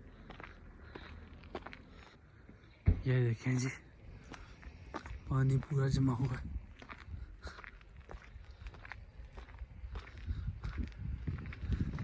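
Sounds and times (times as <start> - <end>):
faint footsteps: 0.0 - 12.0
low background rumble: 0.0 - 12.0.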